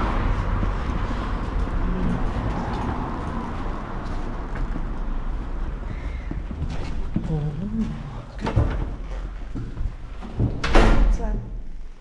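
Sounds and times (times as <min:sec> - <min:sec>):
road traffic rumble: 0:00.0 - 0:10.5.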